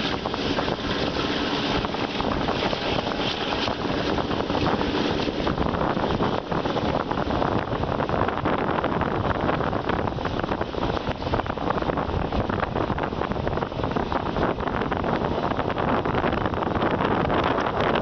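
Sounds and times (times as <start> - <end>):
passenger train rumbling on track: 0.0 - 18.0
wind rushing over microphone: 0.0 - 18.0.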